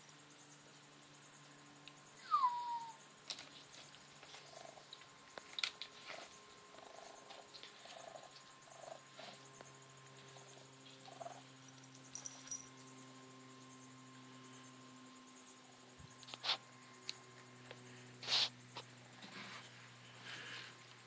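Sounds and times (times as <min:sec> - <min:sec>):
faint steady hum: 0:00.0 - 0:21.0
raccoon purring chirps: 0:02.0 - 0:03.1, 0:04.2 - 0:12.9, 0:13.6 - 0:20.8.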